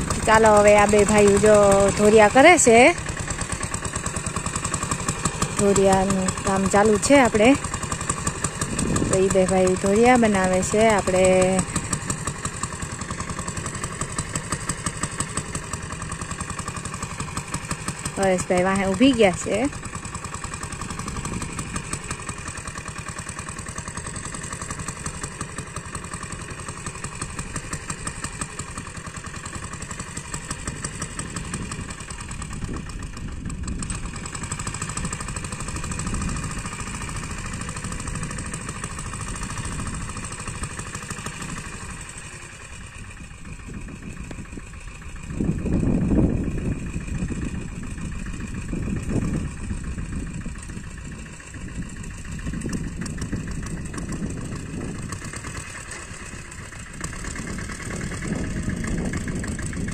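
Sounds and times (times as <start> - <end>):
farm machine engine running: 0.0 - 59.9.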